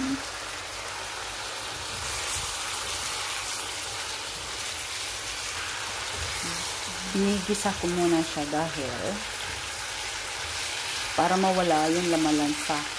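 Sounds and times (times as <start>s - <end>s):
food sizzling in a pan: 0.0s - 12.9s.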